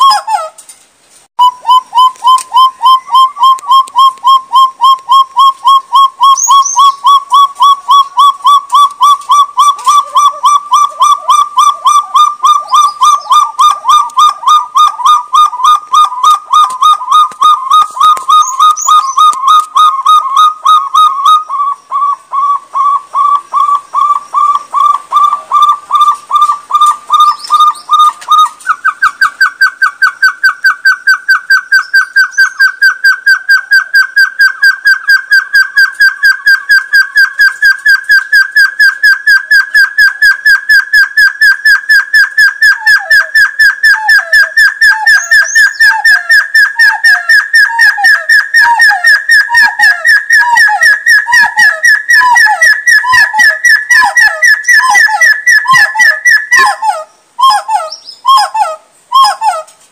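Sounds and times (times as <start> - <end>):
rapid whistled bird notes: 1.4 - 59.5
lower falling bird notes: 1.4 - 59.7.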